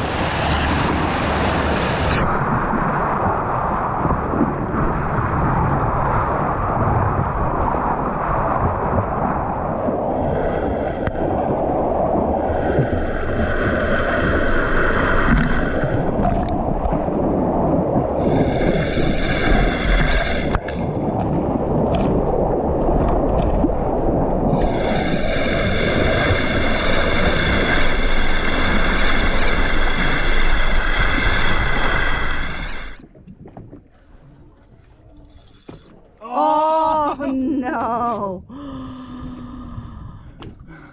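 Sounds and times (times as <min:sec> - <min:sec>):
wind on microphone: 0:00.0 - 0:36.8
water rushing along boat bow: 0:00.0 - 0:40.9.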